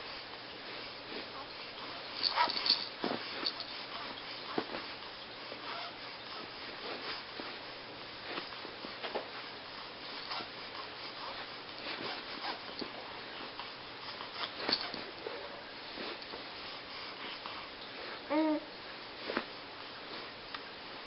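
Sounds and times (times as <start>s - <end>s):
rustling movements: 0.6s - 18.3s, 19.1s - 21.0s.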